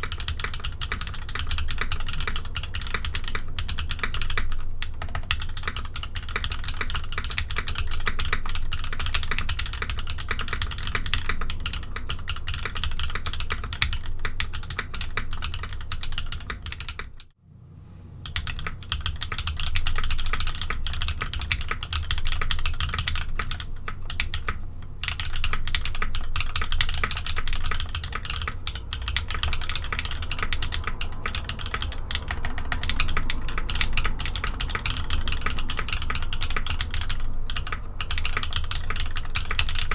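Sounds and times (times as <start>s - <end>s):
fast typing on mechanical keyboard: 0.0s - 17.3s, 18.2s - 39.9s.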